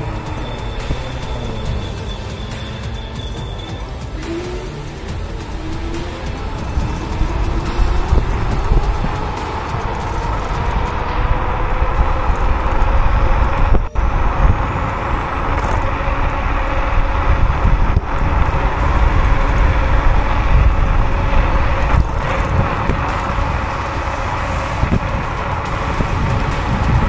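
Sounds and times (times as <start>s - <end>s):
wind rumble on microphone: 0.0s - 27.0s
wind rush and road noise: 0.0s - 27.0s.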